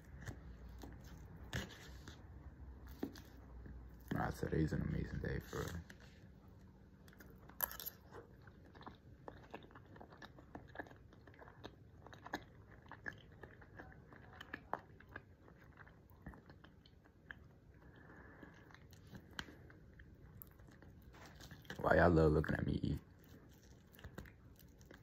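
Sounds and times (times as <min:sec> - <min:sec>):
faint close-up chewing: 0:00.0 - 0:25.0.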